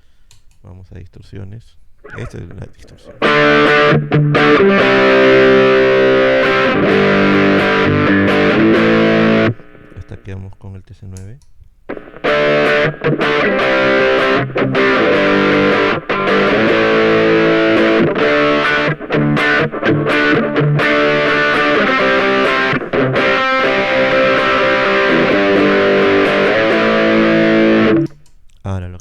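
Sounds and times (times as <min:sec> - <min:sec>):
distorted electric guitar chords: 0:02.0 - 0:10.3, 0:11.9 - 0:28.2.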